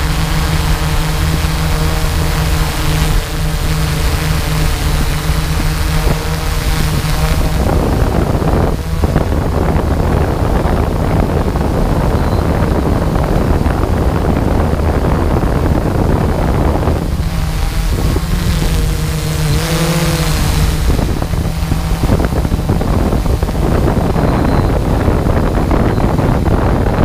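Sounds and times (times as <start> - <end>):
drone motors humming: 0.0 - 27.0
wind rushing across microphone: 0.0 - 27.0.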